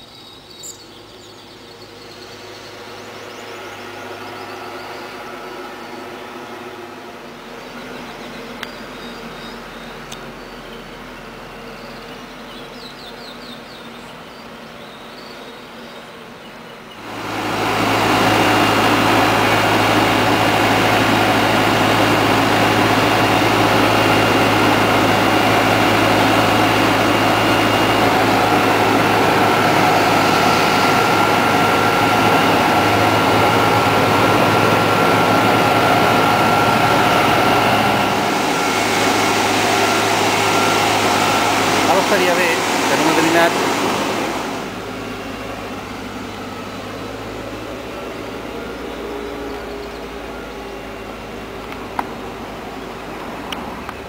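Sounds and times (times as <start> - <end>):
loud mechanical engine drone: 0.0 - 54.0.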